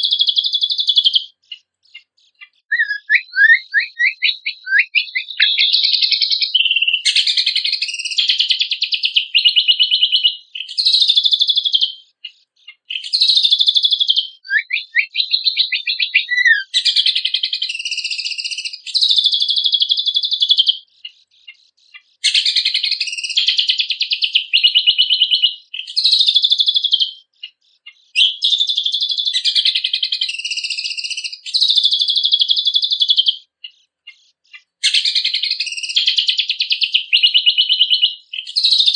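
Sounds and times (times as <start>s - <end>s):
bird warbling song: 0.0s - 38.9s.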